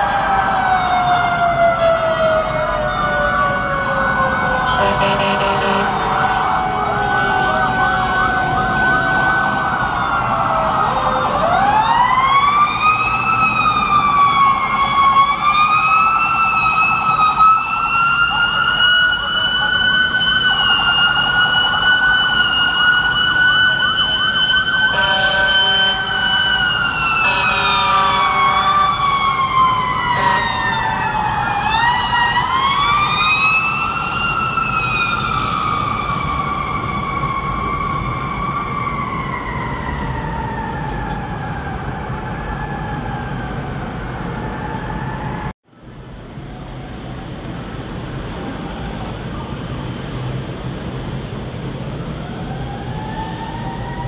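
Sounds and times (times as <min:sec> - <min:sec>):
fire truck siren wailing: 0:00.0 - 0:54.0
street traffic rumble: 0:00.0 - 0:54.0.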